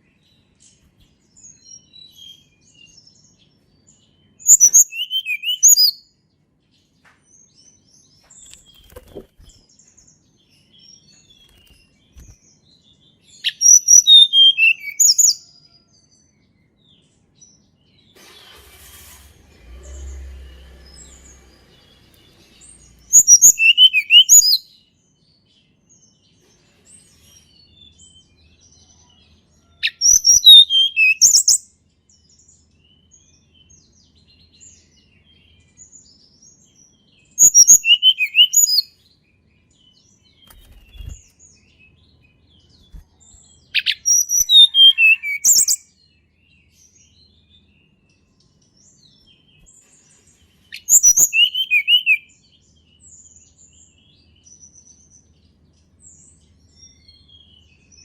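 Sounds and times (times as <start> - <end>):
songbird singing: 0.0 - 18.2, 19.9 - 58.0.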